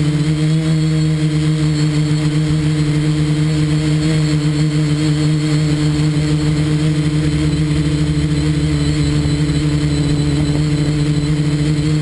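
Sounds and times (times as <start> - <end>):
quadcopter propellers humming: 0.0 - 12.0.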